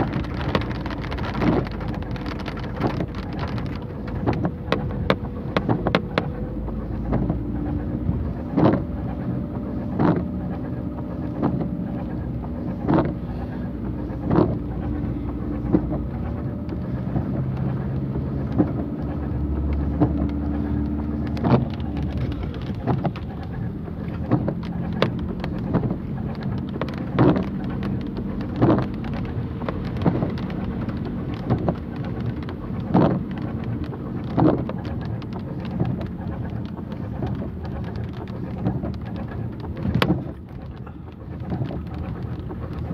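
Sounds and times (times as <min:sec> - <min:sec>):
car engine running: 0:00.0 - 0:42.9
tyres in standing water: 0:00.0 - 0:42.9
windscreen wipers sweeping: 0:00.0 - 0:42.9.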